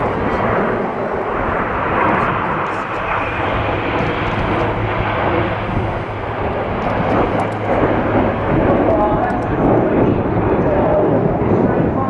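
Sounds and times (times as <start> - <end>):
constant low hum: 0.0 - 12.0
jet engines rushing: 0.0 - 12.0.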